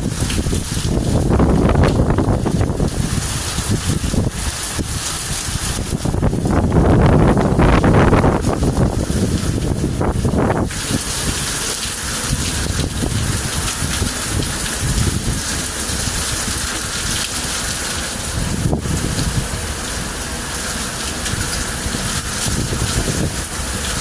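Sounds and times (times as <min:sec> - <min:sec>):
rain falling: 0:00.0 - 0:24.0
wind rumbling on microphone: 0:00.0 - 0:24.0.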